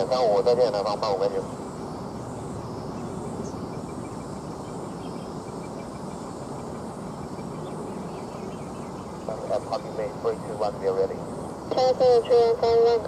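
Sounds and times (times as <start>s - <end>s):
distant airport ground noise: 0.0s - 13.0s.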